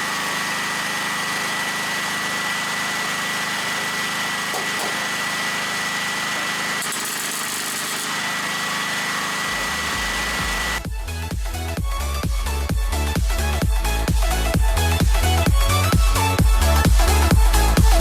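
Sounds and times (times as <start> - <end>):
petrol generator running: 0.0 - 18.0.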